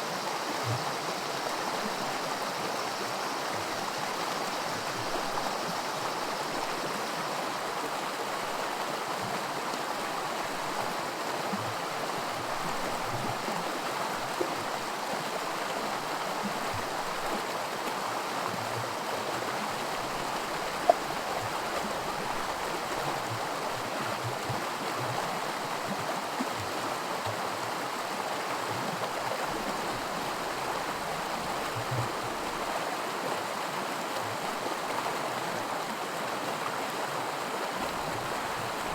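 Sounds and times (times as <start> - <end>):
water running over rocks: 0.0 - 38.9.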